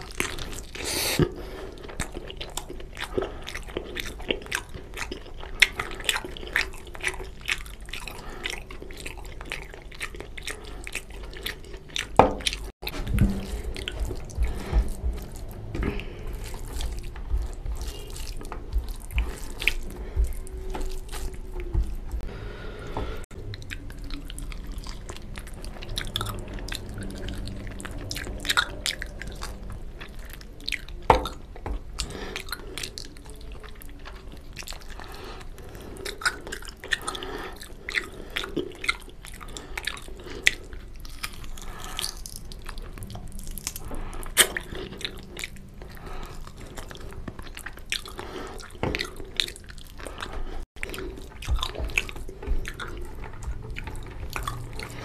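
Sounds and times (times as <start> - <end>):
chewing and lip smacking: 0.0 - 22.3, 22.9 - 55.0.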